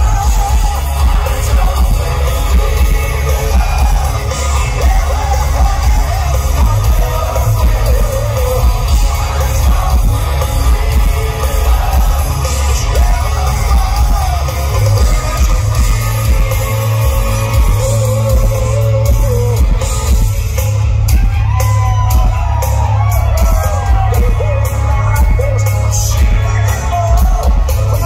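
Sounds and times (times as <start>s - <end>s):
man singing: 0.0s - 20.6s, 23.0s - 28.0s
live rock band: 0.0s - 28.0s.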